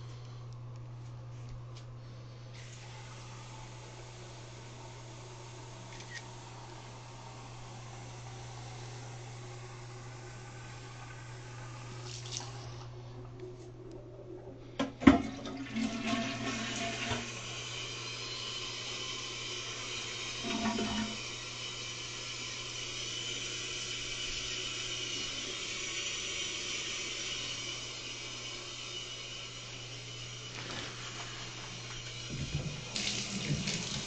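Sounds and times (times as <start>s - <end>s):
water rushing as tank refills: 2.6s - 13.0s, 14.8s - 34.0s.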